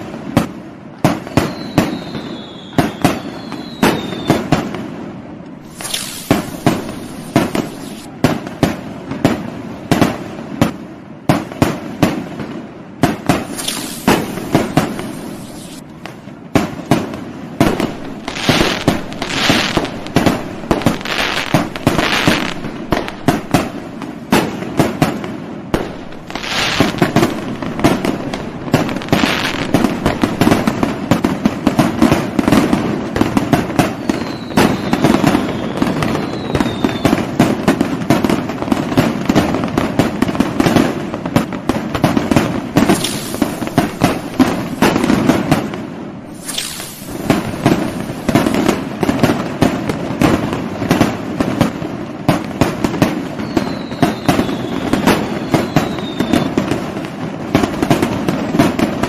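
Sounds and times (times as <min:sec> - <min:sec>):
fireworks bangs and pops: 0:00.0 - 0:59.0.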